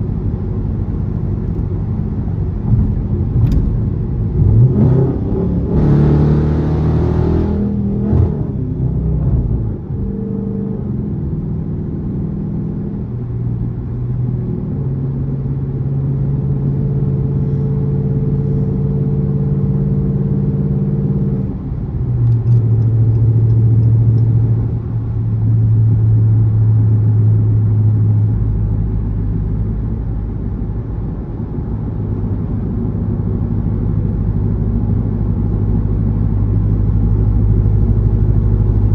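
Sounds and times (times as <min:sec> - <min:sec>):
car engine through loud exhaust: 0:00.0 - 0:38.9.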